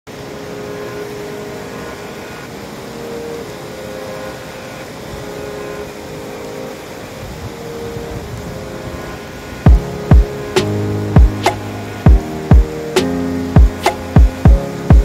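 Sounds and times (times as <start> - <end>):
faint held musical notes: 0.1 - 15.0
river rushing: 0.1 - 15.0.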